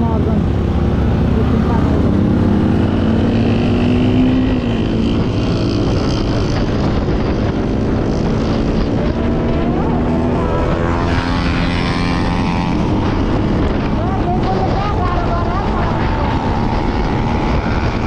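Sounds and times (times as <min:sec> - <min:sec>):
motorcycle accelerating: 0:00.0 - 0:18.0
motorcycle engine: 0:00.0 - 0:18.0
wind rush over microphone: 0:00.0 - 0:18.0.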